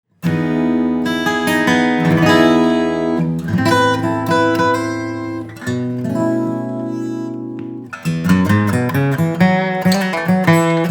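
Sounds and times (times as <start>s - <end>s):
acoustic guitar chords and picking: 0.1s - 10.9s.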